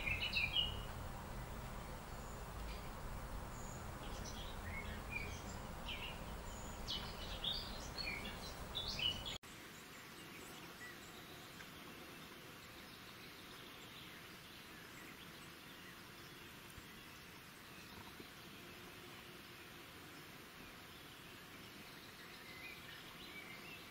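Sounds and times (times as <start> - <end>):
outdoor hiss: 0.0 - 23.9
small birds chirping: 0.0 - 23.9.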